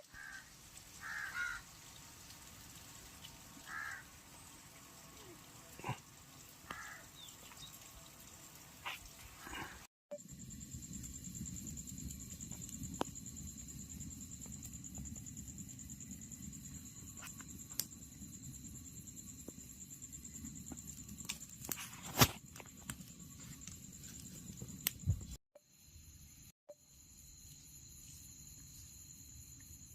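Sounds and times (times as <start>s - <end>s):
insect trill: 0.0s - 29.9s.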